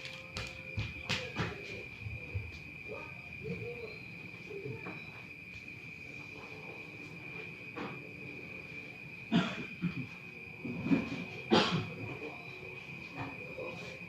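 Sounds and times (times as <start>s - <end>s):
insect trilling: 1.9s - 7.4s, 8.2s - 14.0s.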